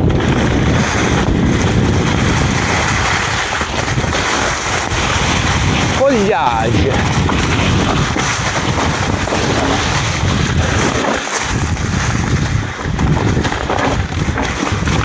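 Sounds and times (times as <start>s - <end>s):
bike tyres crunching over rocks: 0.0s - 15.0s
wind rushing over microphone: 0.0s - 15.0s.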